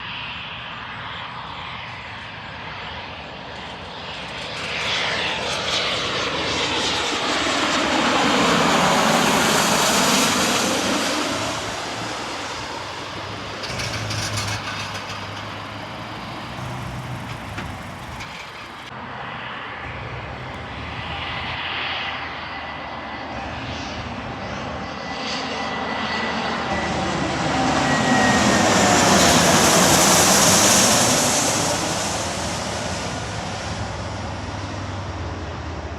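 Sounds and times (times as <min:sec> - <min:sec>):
airplane engine noise: 0:00.0 - 0:35.9.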